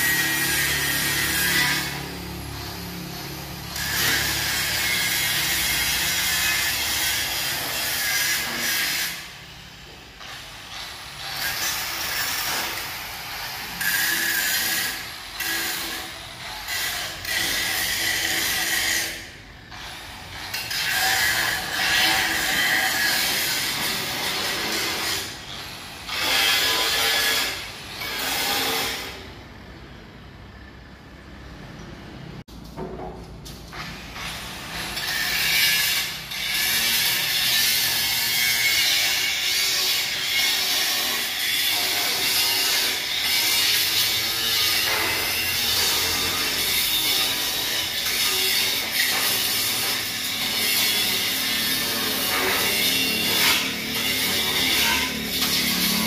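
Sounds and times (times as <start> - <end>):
angle grinder grinding steel: 0.0 - 29.4, 33.7 - 56.0.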